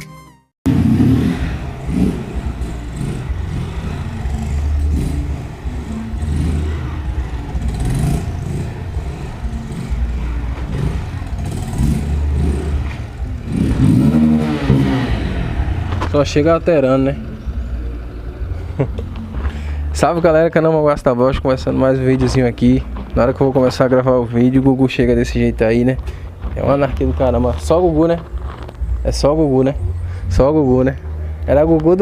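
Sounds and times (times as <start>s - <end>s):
motorcycle engine revving: 0.6s - 32.0s.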